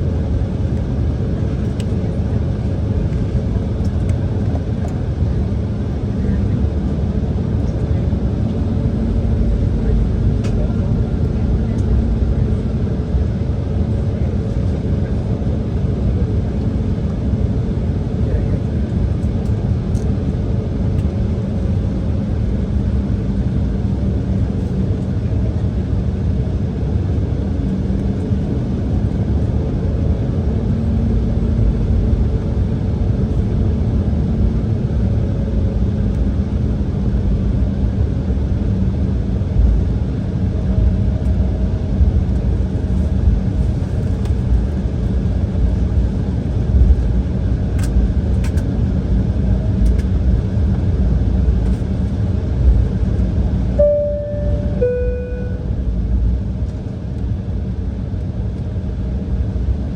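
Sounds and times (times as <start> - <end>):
wheels rumbling on taxiway: 0.0 - 59.9.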